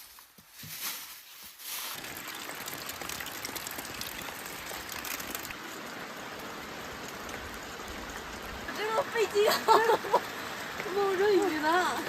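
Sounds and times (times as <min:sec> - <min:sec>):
rain falling: 0:01.7 - 0:12.0.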